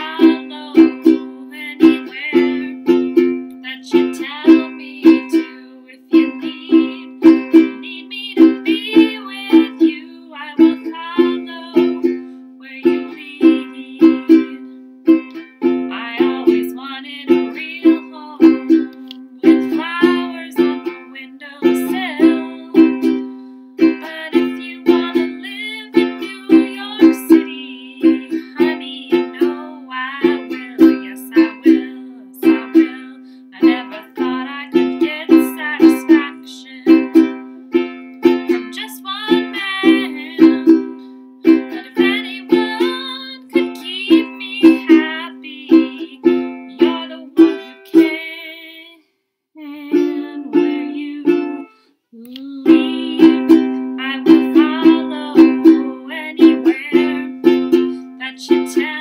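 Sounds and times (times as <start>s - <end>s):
woman singing: 0.0s - 14.7s, 15.6s - 37.5s, 38.4s - 49.0s, 49.6s - 59.0s
ukulele strumming: 0.0s - 48.8s, 49.6s - 59.0s.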